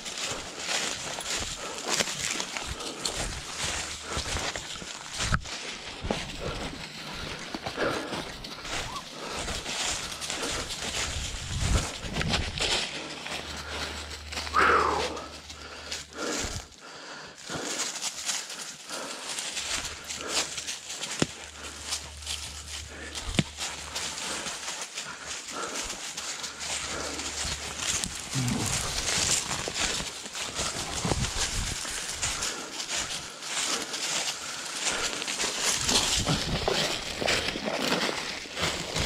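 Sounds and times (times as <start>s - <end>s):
footsteps crunching dry leaves: 0.0s - 39.0s.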